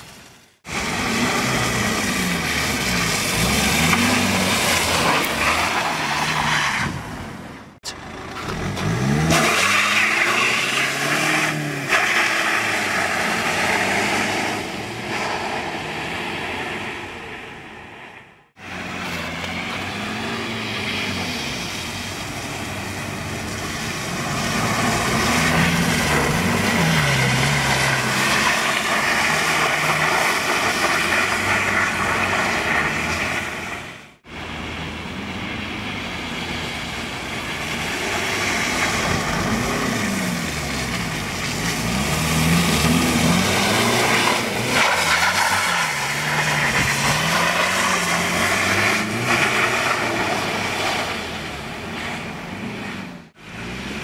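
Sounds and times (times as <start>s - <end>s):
diesel engine revving: 0.6s - 54.0s.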